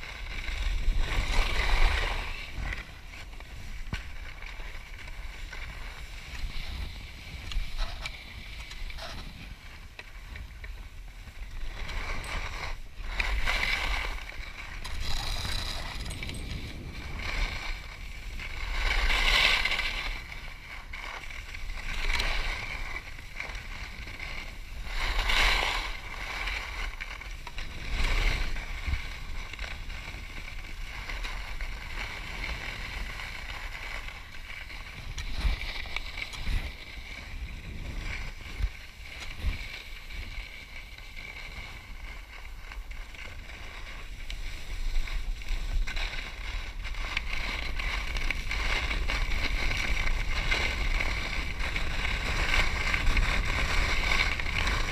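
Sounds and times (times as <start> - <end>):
skis scraping over snow: 0.0 - 54.9
wind rumble on microphone: 0.0 - 54.9.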